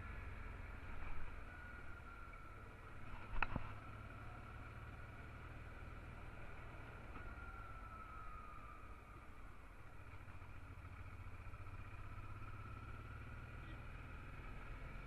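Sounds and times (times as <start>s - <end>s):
motorcycle engine rumbling with whine: 0.0s - 15.0s.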